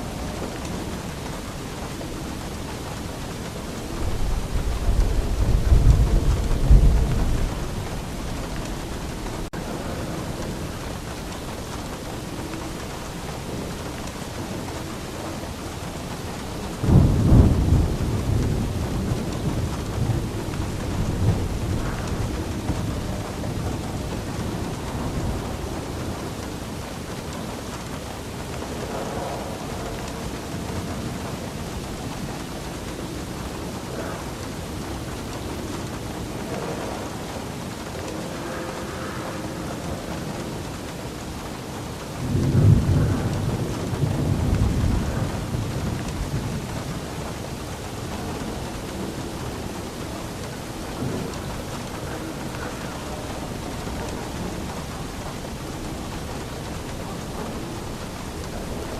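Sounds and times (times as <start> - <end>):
steady rain: 0.0 - 58.9
thunder rumbling: 0.0 - 58.9.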